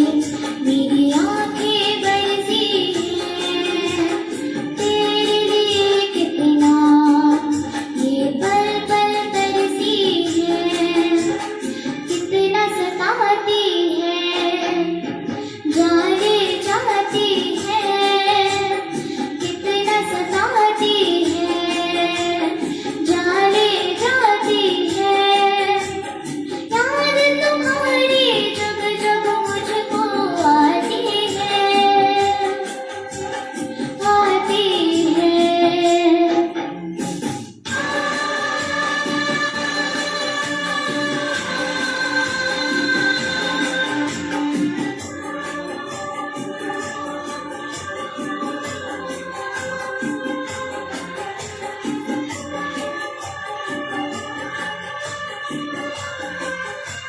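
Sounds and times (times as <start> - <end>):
girl singing a melody: 0.0 - 57.0.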